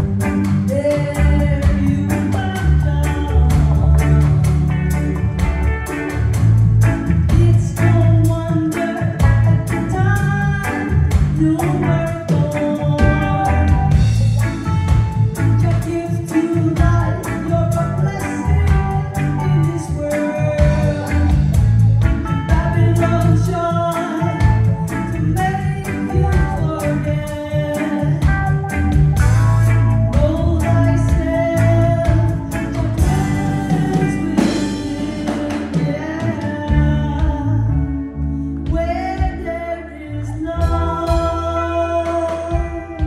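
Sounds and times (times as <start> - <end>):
woman singing into microphone: 0.0 - 6.2, 7.1 - 43.0
drum kit: 0.0 - 37.7, 40.6 - 43.0
electric guitar: 0.0 - 43.0
heavy low bass: 0.0 - 43.0.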